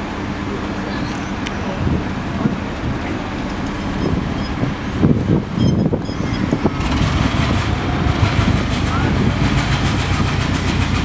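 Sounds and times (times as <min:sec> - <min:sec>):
locomotive diesel engine drone: 0:00.0 - 0:11.0.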